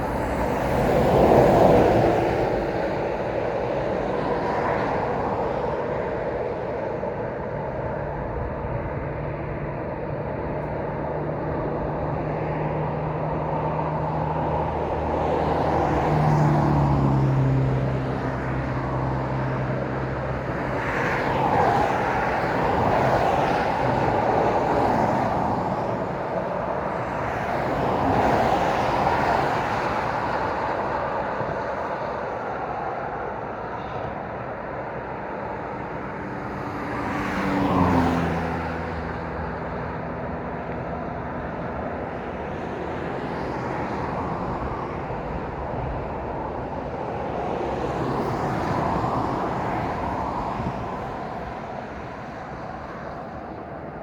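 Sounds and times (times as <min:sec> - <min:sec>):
traffic passing: 0:00.0 - 0:54.0.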